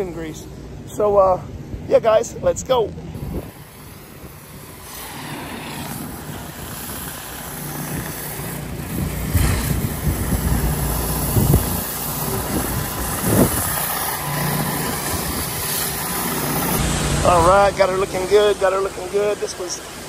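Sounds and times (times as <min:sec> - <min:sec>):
pressure washer engine hum: 0:03.1 - 0:20.0
water spray hissing: 0:03.2 - 0:20.0.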